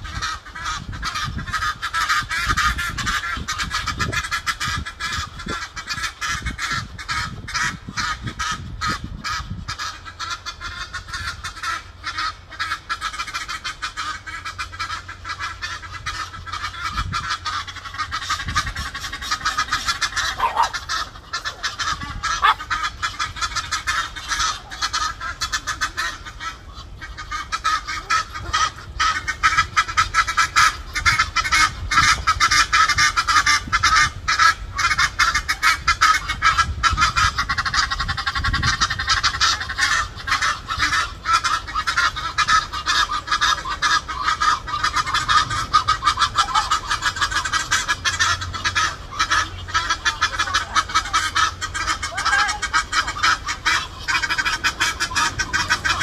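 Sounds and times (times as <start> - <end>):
geese honking and cackling: 0.0 - 56.0.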